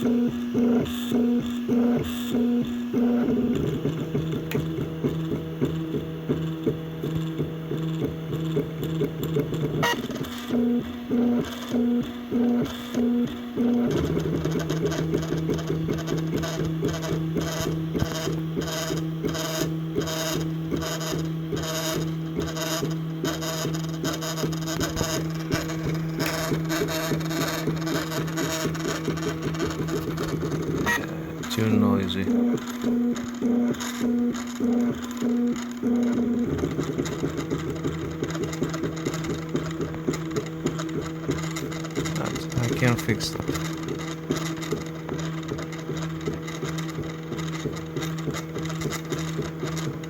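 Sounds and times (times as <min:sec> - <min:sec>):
three d printer motors whirring: 0:00.0 - 0:50.0.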